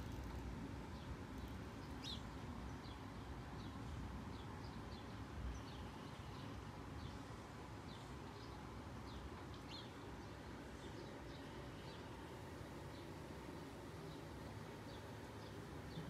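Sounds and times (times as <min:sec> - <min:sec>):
small birds chirping: 0:00.0 - 0:07.3, 0:07.9 - 0:16.0
faint low background noise: 0:00.0 - 0:16.0.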